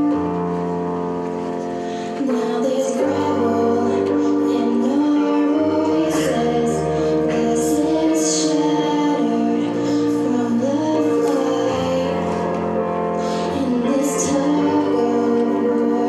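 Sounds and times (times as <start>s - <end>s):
sustained musical accompaniment: 0.0s - 16.0s
person singing: 1.6s - 16.0s.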